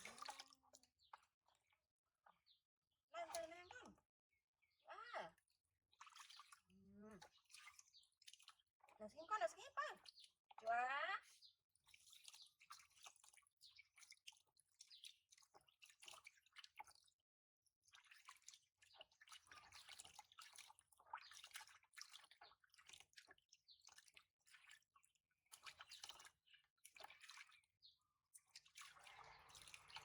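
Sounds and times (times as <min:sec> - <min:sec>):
water dripping and splashing: 0:00.0 - 0:01.3, 0:06.0 - 0:17.2, 0:17.9 - 0:27.7, 0:28.3 - 0:30.0.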